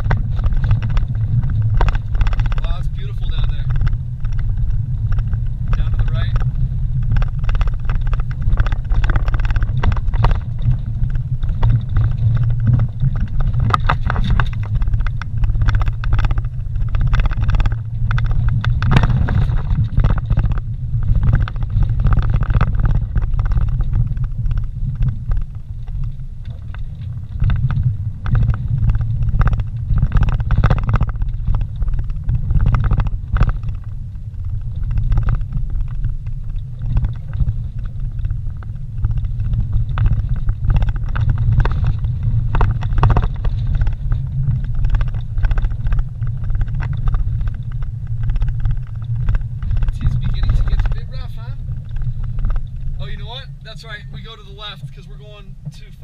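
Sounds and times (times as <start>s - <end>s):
knocks and rattles over bumps: 0.0s - 54.8s
vehicle engine and tyres rumbling: 0.0s - 56.0s.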